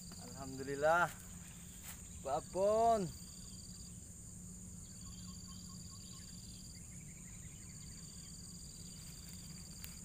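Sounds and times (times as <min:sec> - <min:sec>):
insect chorus buzzing: 0:00.0 - 0:10.0.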